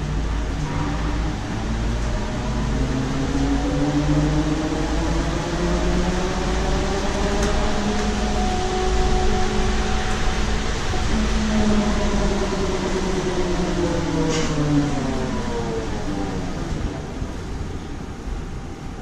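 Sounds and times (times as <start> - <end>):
electric bus drive whine: 0.0 - 19.0
low road rumble: 0.0 - 19.0.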